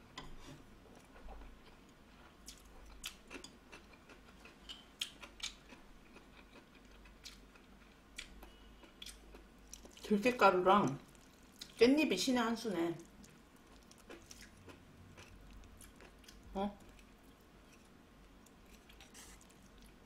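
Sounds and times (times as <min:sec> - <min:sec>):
person chewing noodles: 0:00.9 - 0:10.1, 0:11.0 - 0:11.8, 0:13.0 - 0:20.0.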